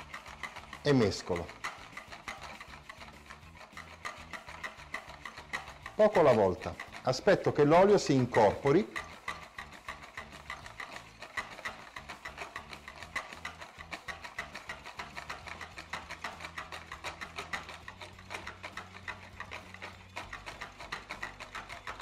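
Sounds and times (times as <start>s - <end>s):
metal whisk clicking against bowl: 0.0s - 22.0s.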